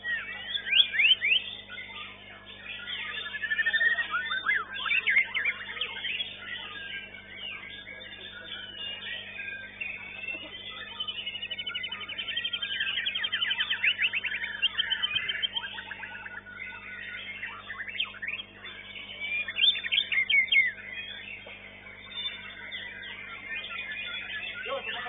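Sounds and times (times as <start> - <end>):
songbird trills and whistles: 0.0 - 25.0.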